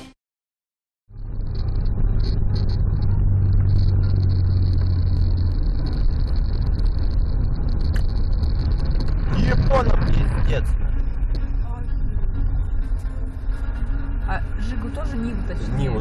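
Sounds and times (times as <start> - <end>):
car engine and road noise: 1.1 - 16.0.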